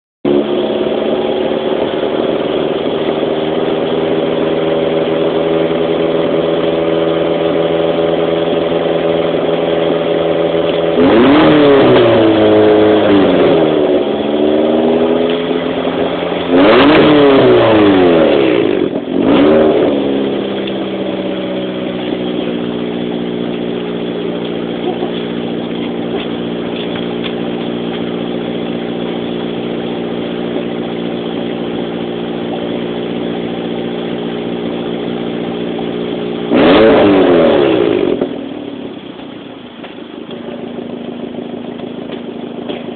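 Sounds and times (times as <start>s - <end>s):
car engine idling and revving: 0.3s - 42.9s.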